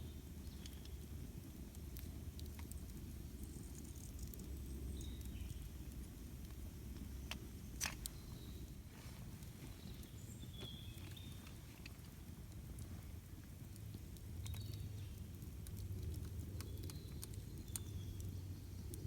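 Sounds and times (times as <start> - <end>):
campfire burning: 0.0 - 19.0
wood crackling: 0.2 - 19.0.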